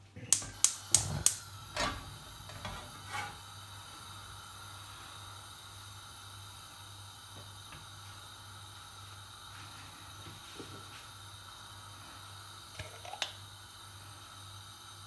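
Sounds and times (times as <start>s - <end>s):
even hiss: 0.0s - 15.0s
low electrical hum: 0.0s - 15.0s.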